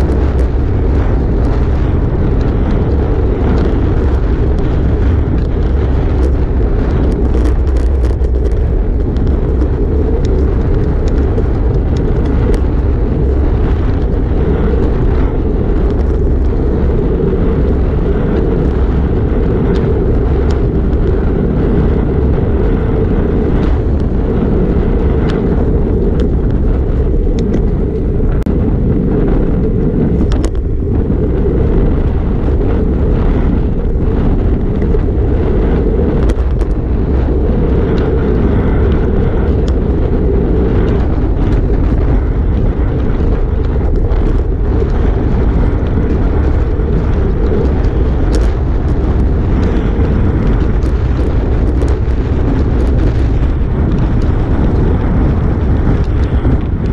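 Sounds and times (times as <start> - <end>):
road clicks and knocks through bike: 0.0 - 56.9
wind buffeting microphone: 0.0 - 56.9.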